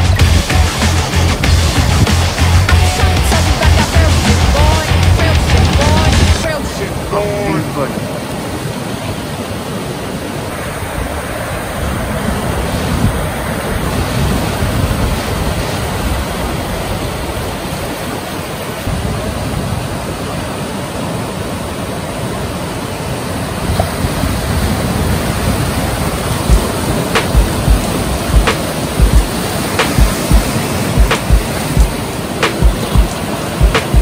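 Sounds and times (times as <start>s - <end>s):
wind buffeting microphone: 0.0s - 20.8s, 23.4s - 34.0s
ocean surf breaking: 0.0s - 34.0s.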